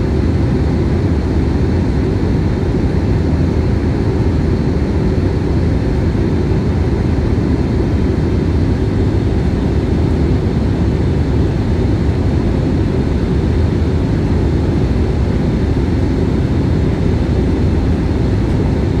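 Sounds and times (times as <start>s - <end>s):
airliner cabin rumble: 0.0s - 19.0s
faint steady whine: 0.0s - 19.0s.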